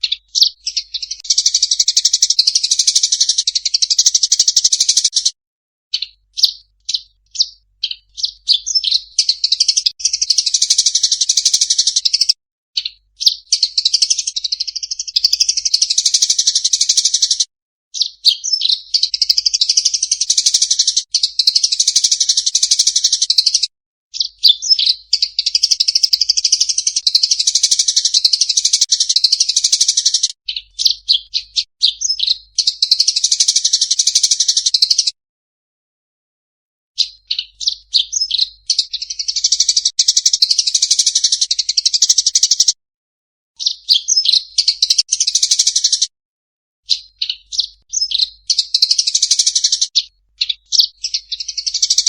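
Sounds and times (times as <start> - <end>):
songbird chattering song: 0.0 - 35.2, 37.0 - 42.8, 43.6 - 46.1, 46.8 - 52.0.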